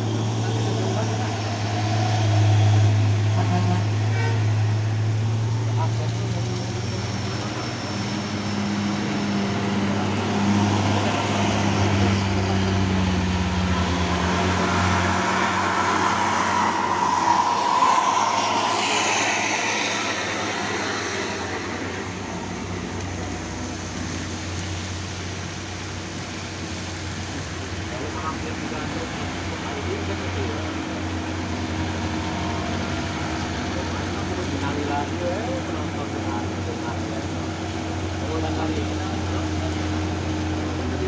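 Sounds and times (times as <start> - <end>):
diesel truck engine labouring: 0.0 - 41.0.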